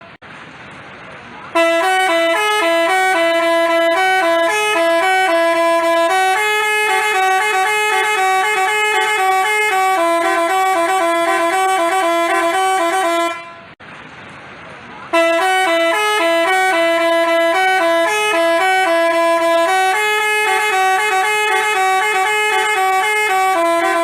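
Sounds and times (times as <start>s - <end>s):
multi-tone bus horn tune: 1.5s - 13.8s, 15.1s - 24.0s.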